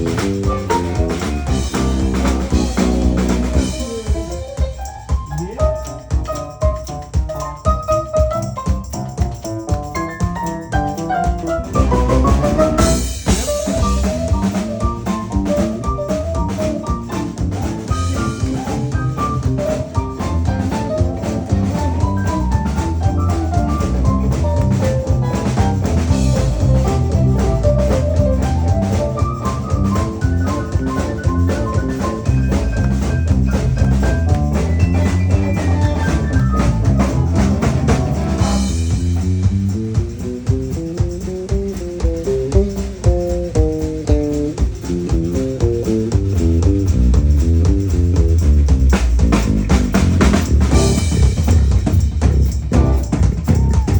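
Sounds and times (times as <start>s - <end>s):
drum kit beat: 0.0s - 53.9s
live band playing: 0.0s - 53.9s.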